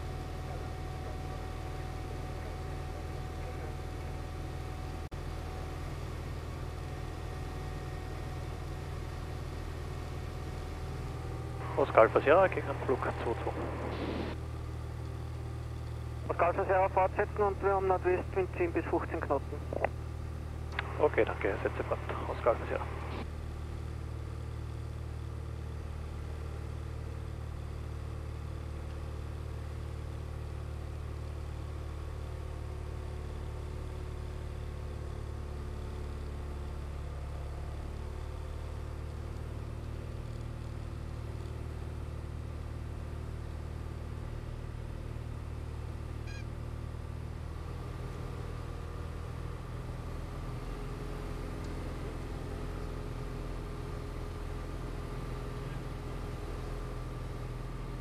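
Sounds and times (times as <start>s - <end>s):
aircraft engine and propeller drone: 0.0s - 58.0s.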